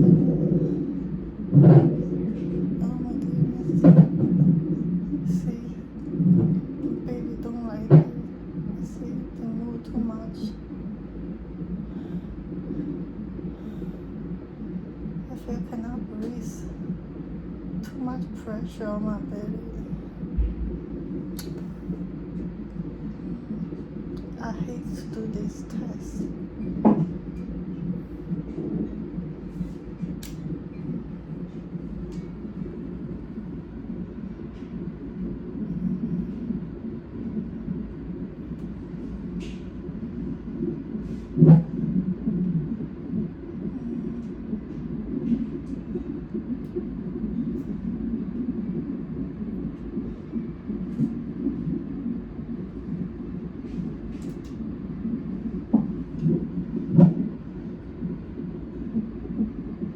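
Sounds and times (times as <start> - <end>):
fetal heartbeat whooshing on doppler: 0.0 - 59.9.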